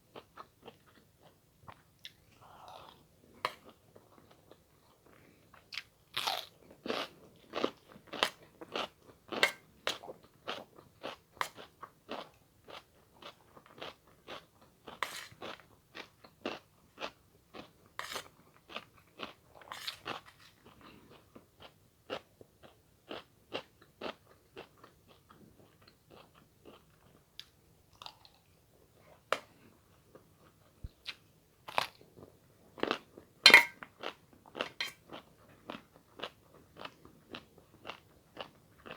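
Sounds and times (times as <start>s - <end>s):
person chewing crunchy food: 0.1s - 38.9s.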